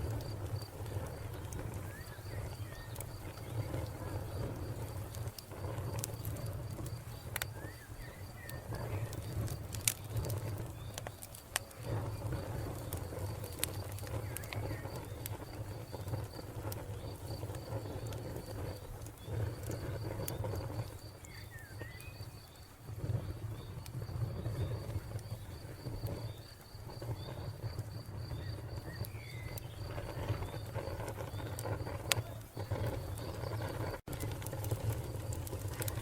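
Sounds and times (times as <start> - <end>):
cricket chirping: 0.0 - 34.0
wood fire crackling: 0.0 - 36.0.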